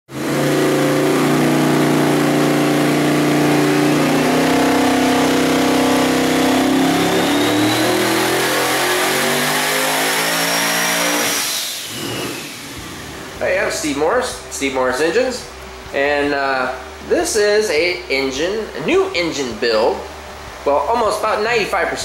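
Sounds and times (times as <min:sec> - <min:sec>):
car engine running on dyno: 0:00.1 - 0:21.9.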